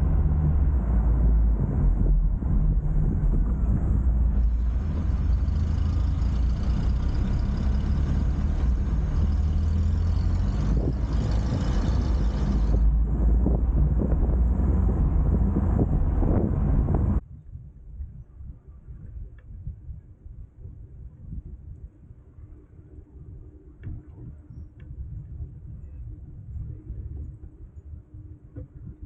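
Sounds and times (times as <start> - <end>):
low road rumble: 0.0 - 29.0
wind buffeting microphone: 0.0 - 29.0.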